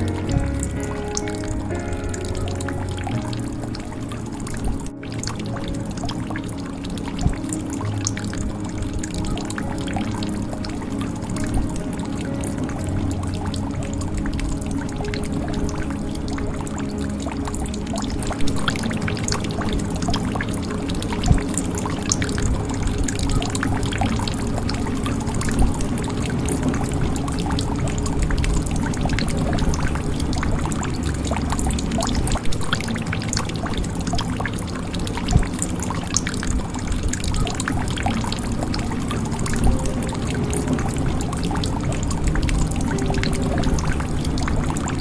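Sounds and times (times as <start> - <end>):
water trickling into a jug: 0.0 - 45.0.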